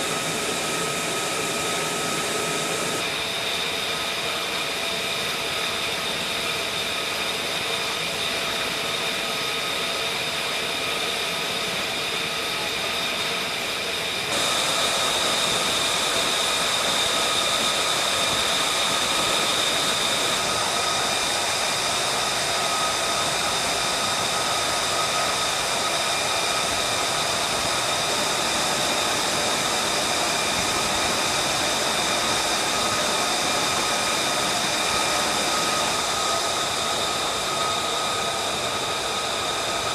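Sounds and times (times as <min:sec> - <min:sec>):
jet engine idling with whine: 0:00.0 - 0:39.9.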